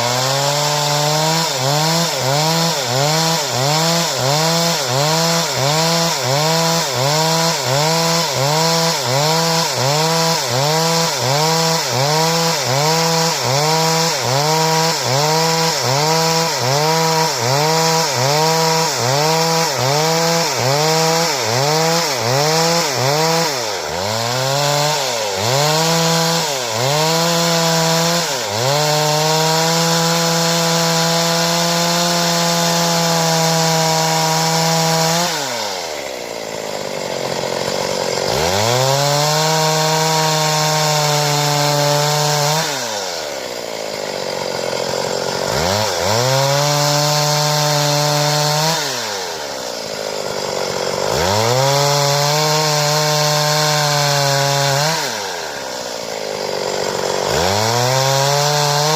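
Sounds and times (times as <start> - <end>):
chainsaw revving and cutting wood: 0.0 - 58.9.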